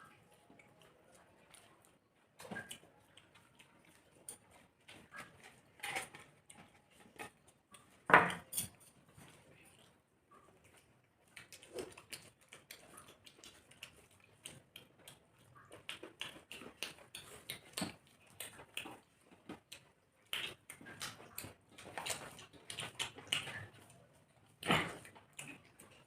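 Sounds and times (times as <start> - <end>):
chewing and mouth smacking: 0.0 - 26.0.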